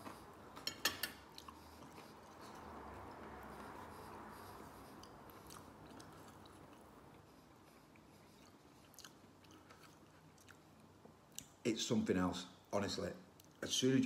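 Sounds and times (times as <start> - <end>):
person quietly chewing: 0.0 - 11.6, 13.4 - 13.6.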